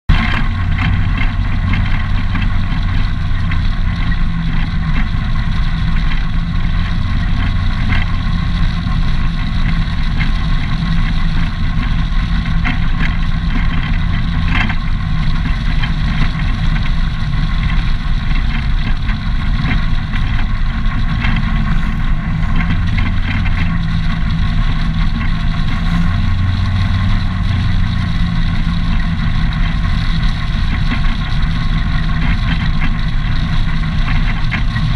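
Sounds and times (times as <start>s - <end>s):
quad bike engine running: 0.1s - 34.9s
wind and tyre hiss: 0.2s - 34.9s.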